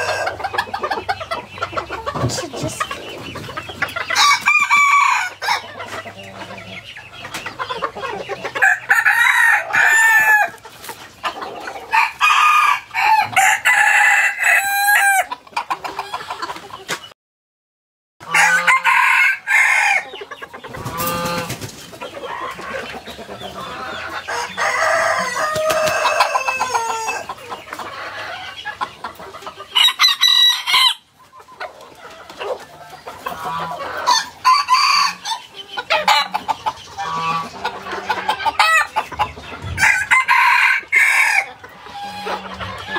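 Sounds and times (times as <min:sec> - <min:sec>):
roosters crowing: 0:00.0 - 0:06.9, 0:07.8 - 0:10.6, 0:11.3 - 0:15.4, 0:18.2 - 0:28.9, 0:29.6 - 0:31.2, 0:32.1 - 0:42.9
chicken clucking: 0:00.0 - 0:17.2, 0:18.2 - 0:42.9.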